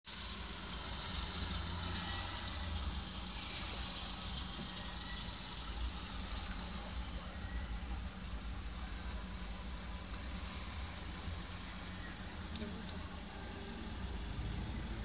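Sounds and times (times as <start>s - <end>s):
car engines idling: 0.1s - 15.0s
even hiss: 0.1s - 15.0s.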